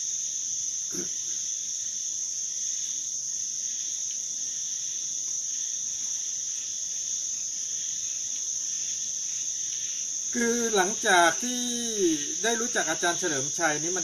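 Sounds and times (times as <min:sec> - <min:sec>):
high-pitched insect trilling: 0:00.0 - 0:14.0.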